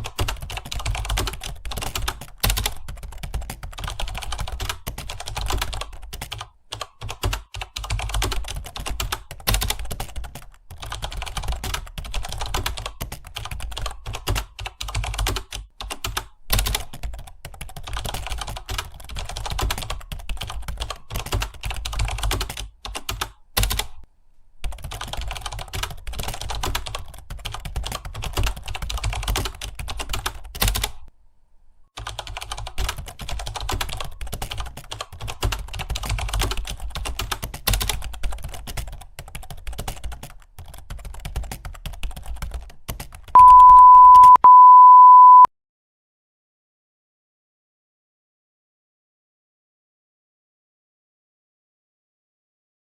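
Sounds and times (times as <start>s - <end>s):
fast keyboard typing: 0.0s - 24.0s, 24.6s - 31.1s, 32.0s - 45.4s.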